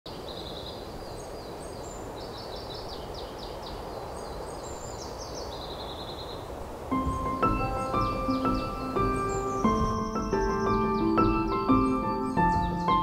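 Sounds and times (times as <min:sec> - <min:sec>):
birds chirping: 0:00.1 - 0:13.0
low outdoor background rush: 0:00.1 - 0:13.0.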